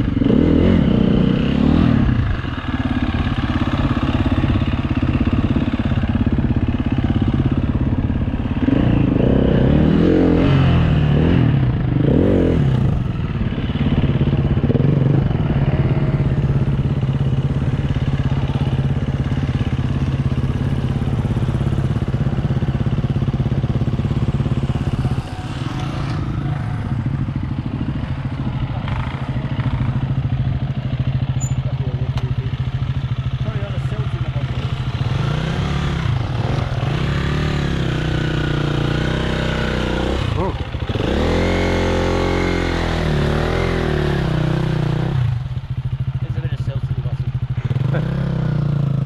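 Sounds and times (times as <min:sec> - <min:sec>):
dirt bike engine revving: 0:00.0 - 0:31.6, 0:32.6 - 0:46.4, 0:47.5 - 0:49.0.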